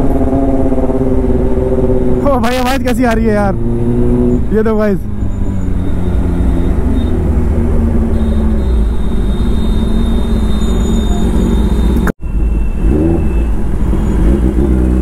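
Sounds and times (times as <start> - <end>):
motorcycle engine revving: 0.0 - 12.1, 12.8 - 15.0.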